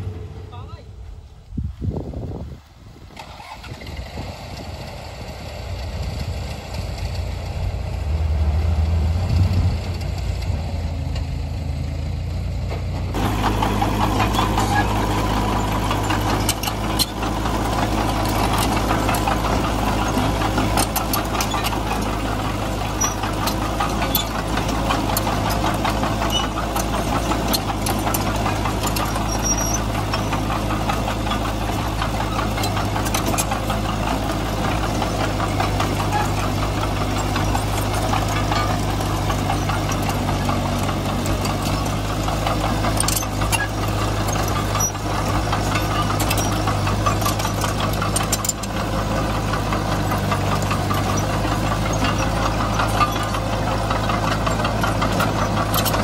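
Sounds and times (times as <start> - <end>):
bulldozer diesel engine: 0.0 - 1.5, 3.1 - 56.0.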